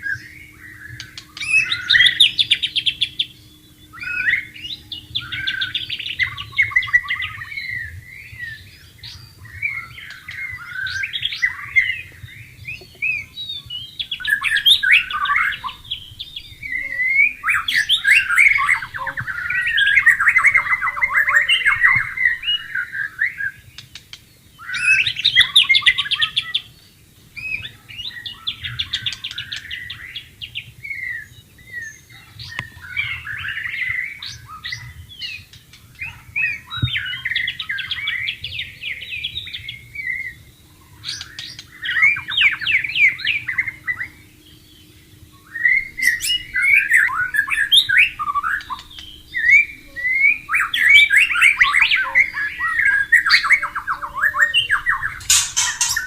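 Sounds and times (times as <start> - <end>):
bird singing whistles and chatter: 0.0 - 26.7, 27.4 - 56.0.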